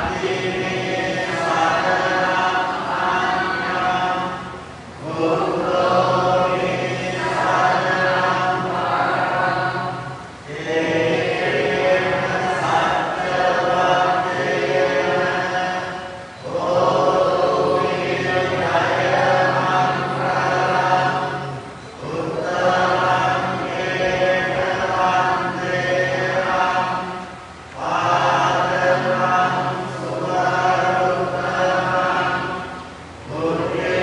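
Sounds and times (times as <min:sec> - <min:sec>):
people chanting together: 0:00.0 - 0:34.0.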